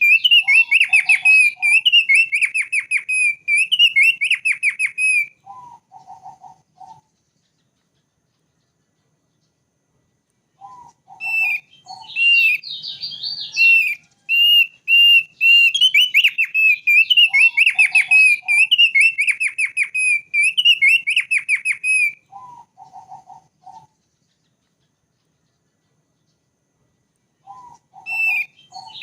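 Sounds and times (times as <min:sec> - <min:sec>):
bird singing whistled trills: 0:00.0 - 0:09.6, 0:10.5 - 0:26.4, 0:27.4 - 0:29.0
lower bird notes: 0:00.0 - 0:29.0.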